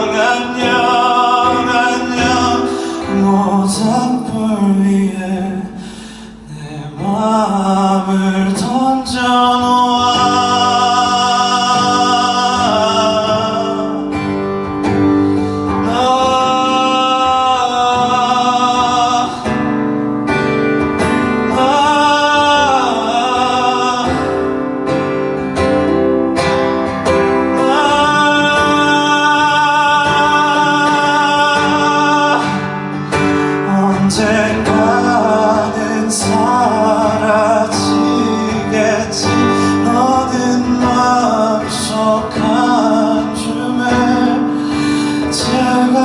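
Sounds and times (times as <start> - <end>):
man singing wordless notes: 0.0 - 25.9, 26.8 - 46.0
acoustic guitar: 0.0 - 46.0.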